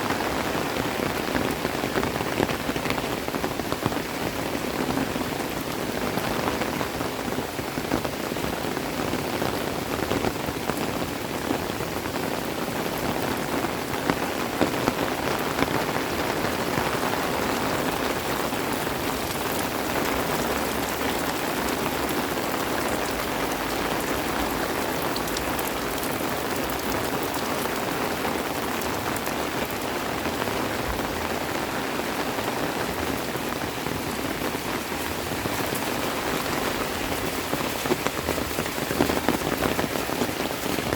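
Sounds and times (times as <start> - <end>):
raindrops ticking close by: 0.0 - 40.9
steady rain hiss: 0.0 - 40.9.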